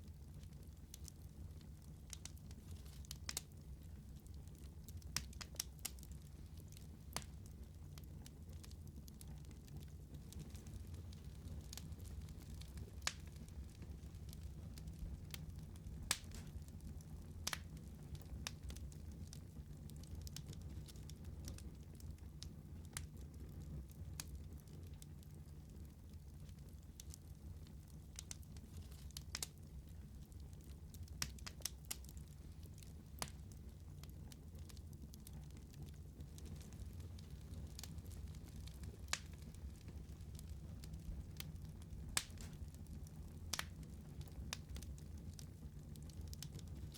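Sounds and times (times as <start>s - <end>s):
fire crackles and pops: 0.0s - 46.9s
fire rumble: 0.0s - 46.9s.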